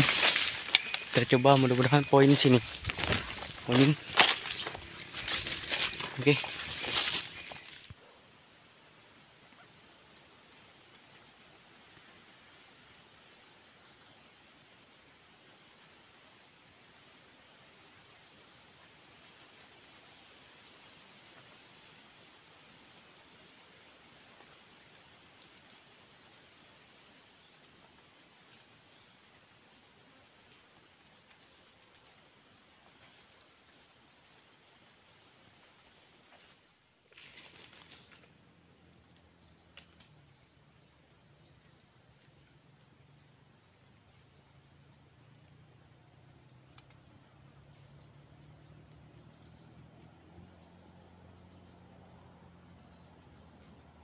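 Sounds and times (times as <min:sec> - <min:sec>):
insects droning: 0:00.0 - 0:54.0
pulsing high insect layer: 0:00.0 - 0:54.0.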